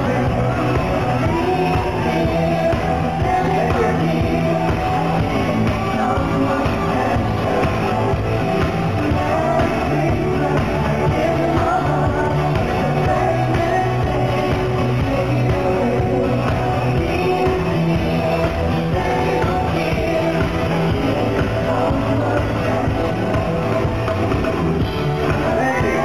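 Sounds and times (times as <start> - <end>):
song with singing and band: 0.0 - 26.0.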